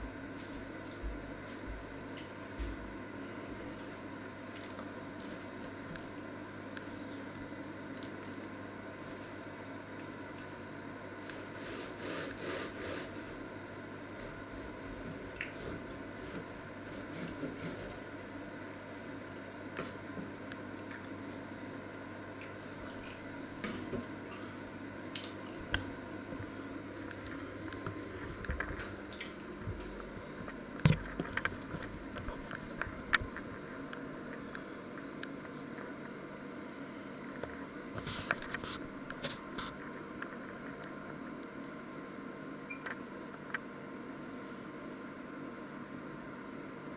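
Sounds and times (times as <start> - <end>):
low room hum: 0.0 - 46.9.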